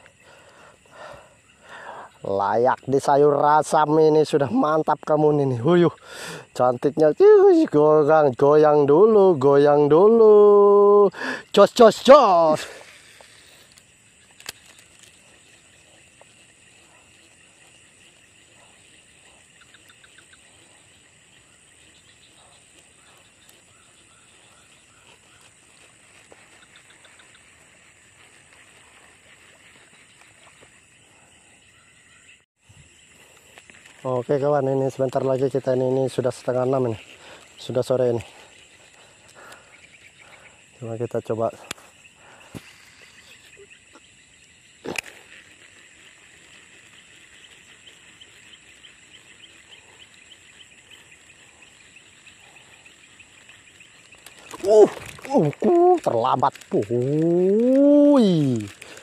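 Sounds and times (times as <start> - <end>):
high-pitched insect drone: 0.0 - 59.0
insect chirps and ticks: 0.0 - 59.0.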